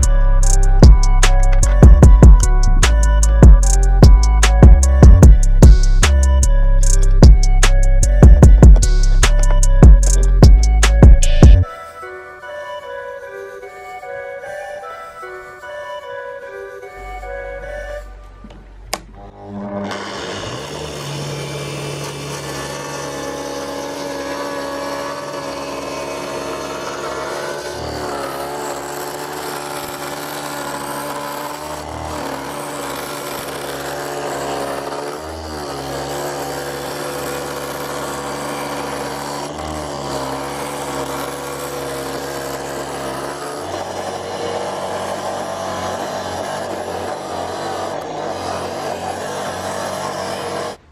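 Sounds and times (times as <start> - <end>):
angle grinder cutting wood: 0.0 - 50.9.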